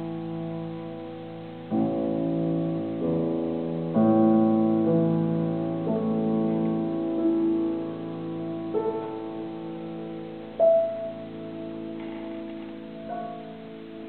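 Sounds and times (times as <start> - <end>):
grand piano chords: 0.0 - 14.0.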